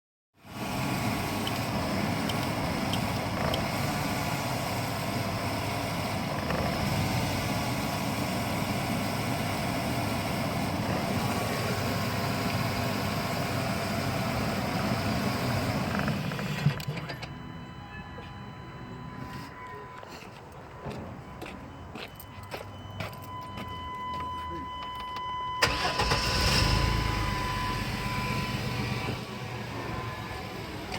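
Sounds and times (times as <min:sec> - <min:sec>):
van engine idling: 0:00.5 - 0:20.1, 0:25.6 - 0:30.9.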